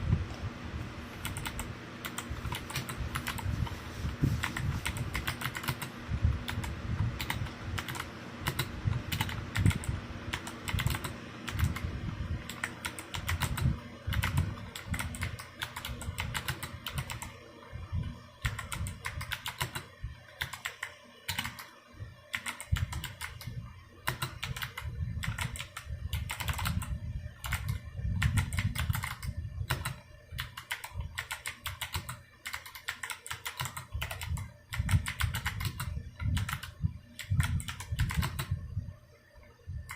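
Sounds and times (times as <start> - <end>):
mechanical keyboard typing clicks: 1.2 - 3.4, 4.5 - 5.9, 6.5 - 11.9, 12.5 - 17.3, 18.4 - 21.7, 22.3 - 38.5.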